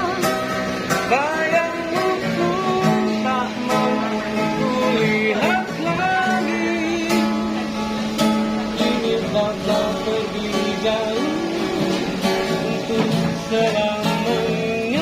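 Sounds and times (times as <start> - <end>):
person singing: 0.0 - 7.8, 8.6 - 15.0
acoustic guitar strumming chords: 0.0 - 15.0.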